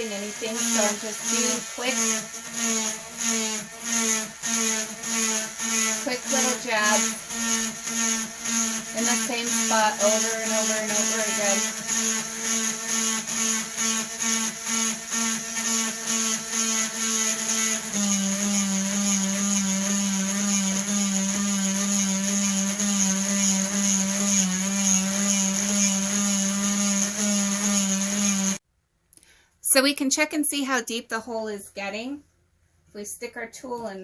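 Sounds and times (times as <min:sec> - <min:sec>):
rotary tool drilling into stone: 0:00.0 - 0:28.6.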